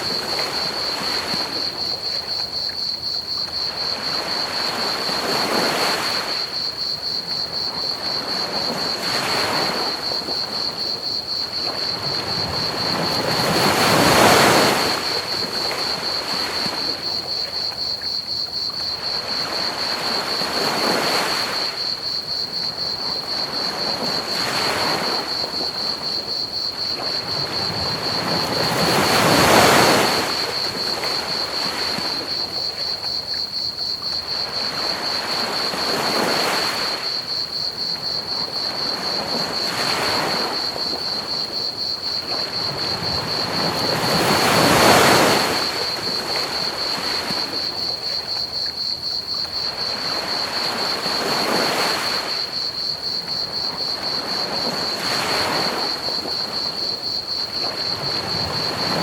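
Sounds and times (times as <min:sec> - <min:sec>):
cricket chirping: 0:00.0 - 0:59.0
ocean waves washing onto beach: 0:00.0 - 0:59.0.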